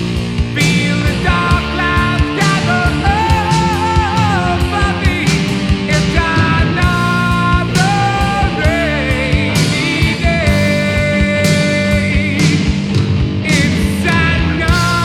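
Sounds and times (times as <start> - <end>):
distorted heavy metal band: 0.0 - 15.0
melodic lead guitar line: 0.0 - 15.0.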